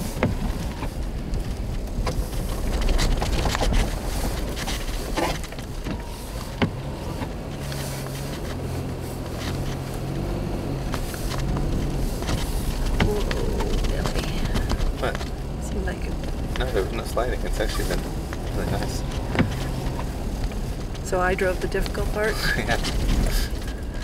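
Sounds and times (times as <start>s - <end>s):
engine and road rumble: 0.0s - 24.0s
low engine hum: 0.0s - 24.0s.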